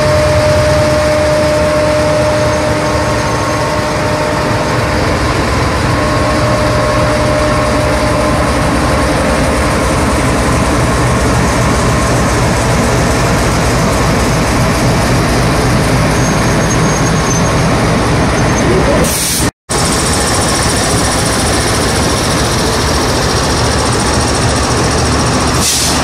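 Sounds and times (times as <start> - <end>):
heavy low rumble: 0.0 - 25.6
diesel locomotive engine running: 0.0 - 26.0.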